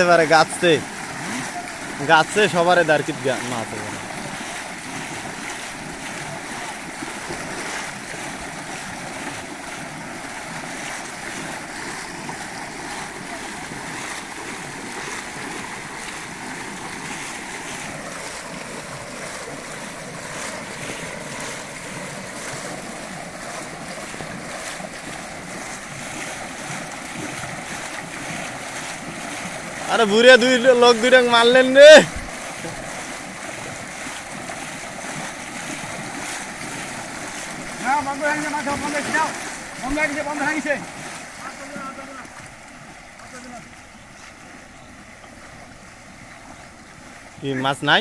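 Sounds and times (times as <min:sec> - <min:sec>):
rushing water: 0:00.0 - 0:48.0.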